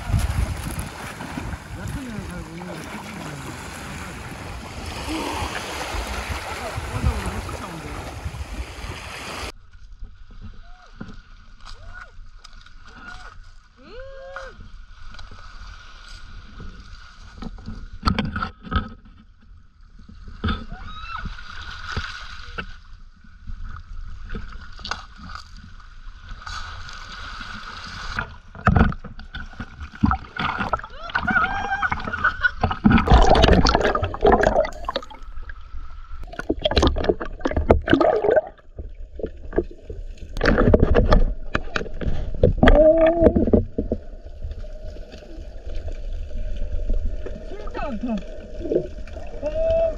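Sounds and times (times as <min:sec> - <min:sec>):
water sloshing and splashing: 0:00.0 - 0:13.8, 0:14.6 - 0:49.9.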